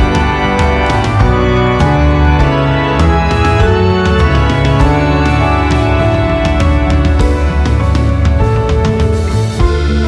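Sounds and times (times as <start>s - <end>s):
keyboard chords over a beat: 0.0s - 10.0s.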